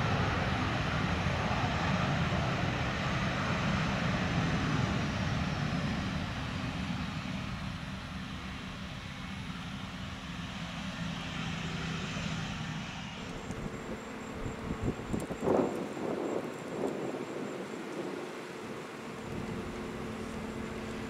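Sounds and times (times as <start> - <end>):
jet engines rumbling: 0.0 - 21.0
quieter jet noise: 0.0 - 21.0.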